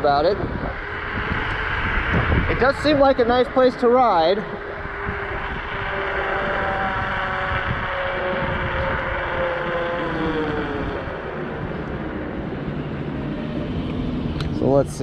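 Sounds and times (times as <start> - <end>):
electric scooter motor whine: 0.0 - 15.0
wind on microphone: 0.0 - 15.0.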